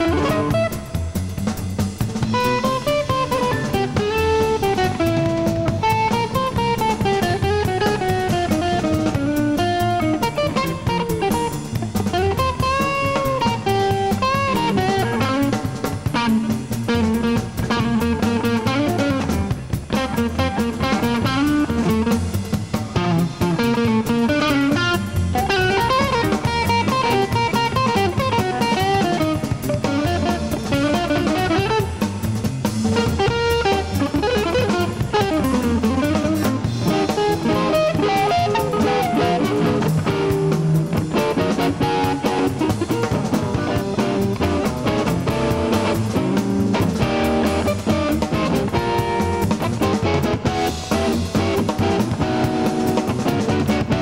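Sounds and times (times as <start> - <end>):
drum kit: 0.0 - 54.0
electric guitar playing quick runs: 0.0 - 54.0.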